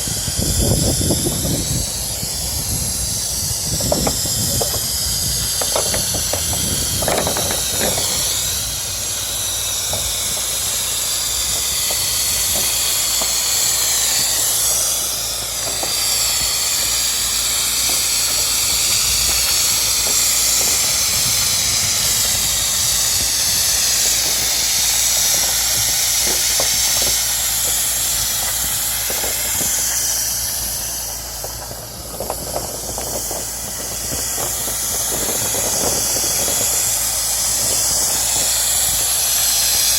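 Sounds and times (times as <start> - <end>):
low engine-like hum: 0.0 - 39.9
spray gun hissing: 0.0 - 39.9.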